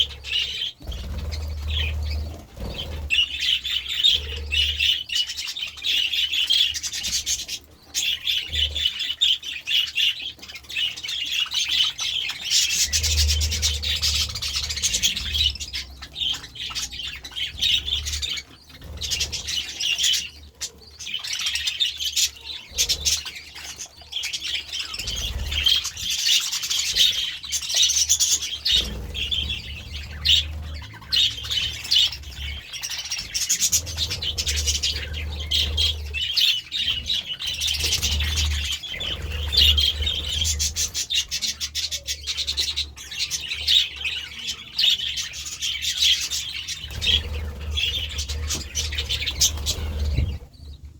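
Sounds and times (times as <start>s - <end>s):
budgerigars chattering and chirping: 0.0s - 50.9s.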